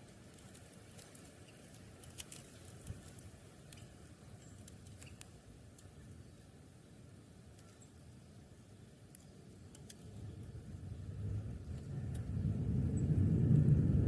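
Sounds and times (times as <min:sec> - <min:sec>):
low steady hiss: 0:00.0 - 0:14.0.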